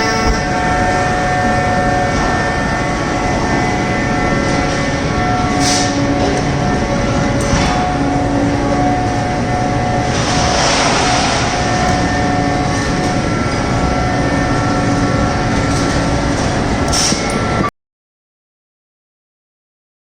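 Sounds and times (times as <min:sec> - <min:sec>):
rush of noise: 0:00.0 - 0:17.6
baler machine hum and whine: 0:00.0 - 0:17.7.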